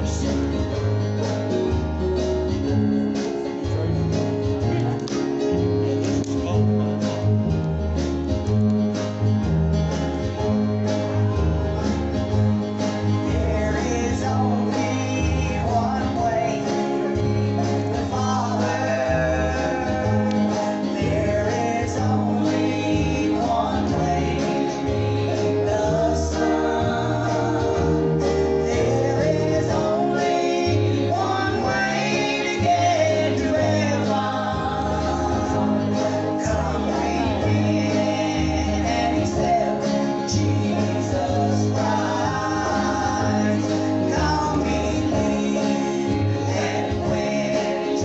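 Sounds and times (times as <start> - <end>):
gospel group singing: 0.0 - 48.0
instrumental backing: 0.0 - 48.0.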